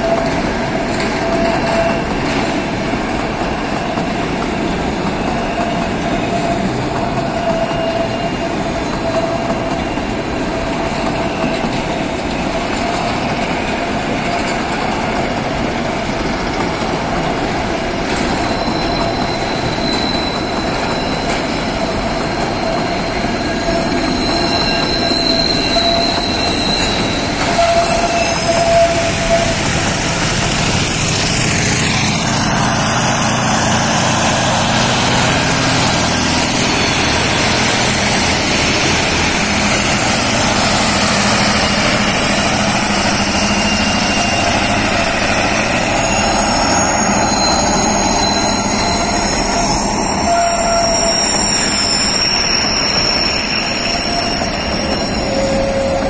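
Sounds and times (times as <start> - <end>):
diesel locomotive engine hum: 0.0 - 56.0
train wheels squealing: 0.0 - 56.0.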